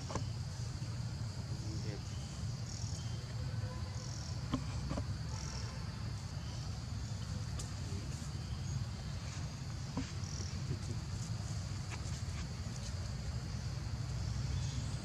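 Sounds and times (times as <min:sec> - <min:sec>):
high insect drone: 0:00.0 - 0:15.0
insect chirps: 0:00.0 - 0:15.0.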